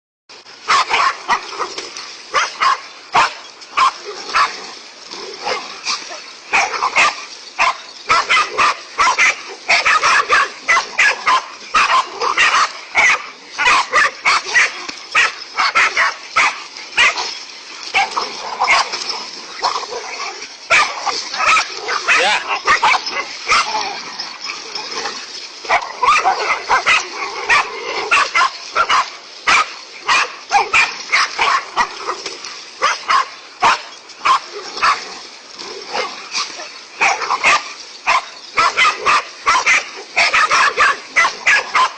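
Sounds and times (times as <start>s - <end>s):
dogs barking: 0.6s - 35.2s, 35.8s - 41.9s.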